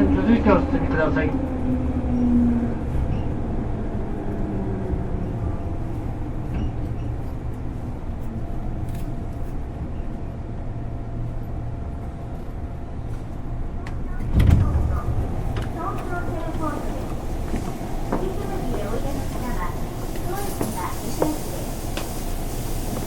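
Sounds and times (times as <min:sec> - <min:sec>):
train interior low rumble: 0:00.0 - 0:23.0.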